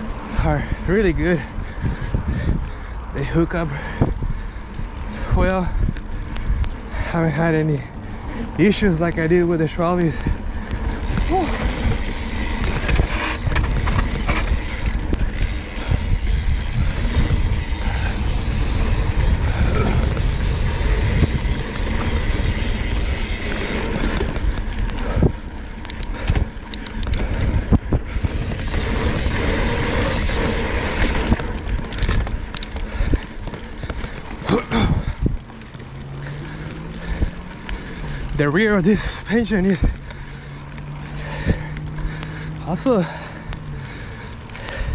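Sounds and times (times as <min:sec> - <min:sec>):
bike rattling over ground: 0:00.0 - 0:44.9
bike tyres rolling on dirt: 0:00.0 - 0:44.9
wind rumbling on microphone: 0:00.0 - 0:44.9.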